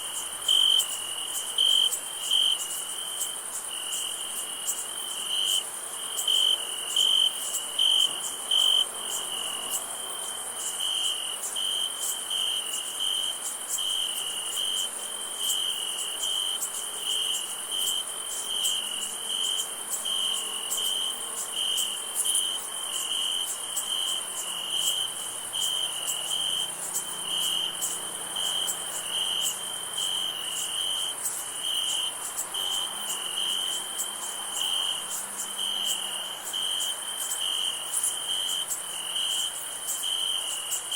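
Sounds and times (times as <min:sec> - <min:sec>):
crickets chirping: 0:00.0 - 0:40.9
high insect trill: 0:00.0 - 0:40.9.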